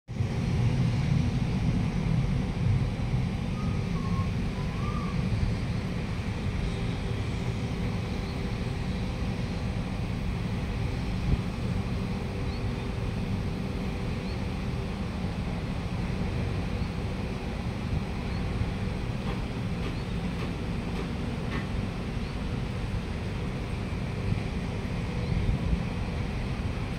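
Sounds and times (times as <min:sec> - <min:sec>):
metro train rumble: 0:00.1 - 0:26.9.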